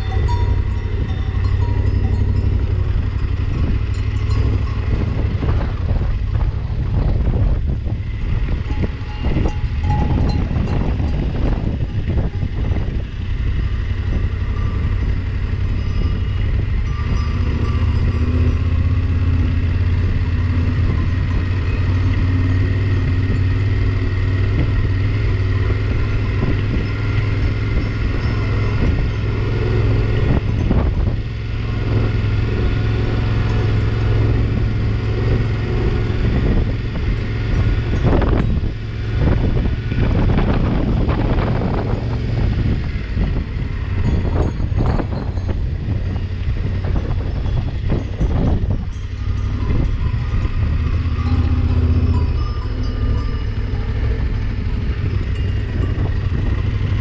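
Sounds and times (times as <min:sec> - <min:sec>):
motorcycle engine running: 0:00.0 - 0:57.0
wind gusts: 0:00.0 - 0:57.0.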